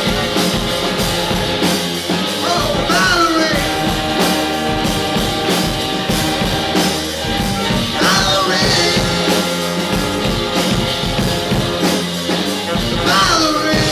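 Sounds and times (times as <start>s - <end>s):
person singing: 0.0s - 7.0s, 7.6s - 13.9s
drums: 0.0s - 13.9s
guitar: 0.0s - 13.9s
rock band with horns playing: 0.0s - 13.9s.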